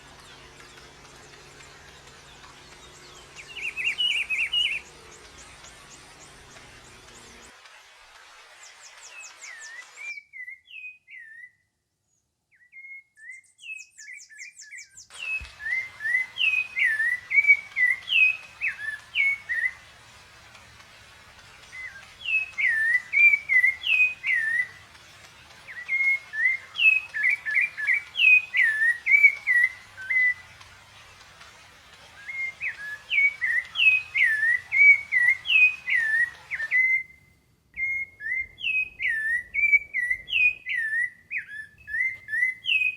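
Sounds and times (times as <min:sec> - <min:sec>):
songbird whistling: 0:00.0 - 0:07.5, 0:08.6 - 0:11.7, 0:12.5 - 0:42.9
faint steady hiss: 0:00.0 - 0:10.1, 0:15.1 - 0:42.9.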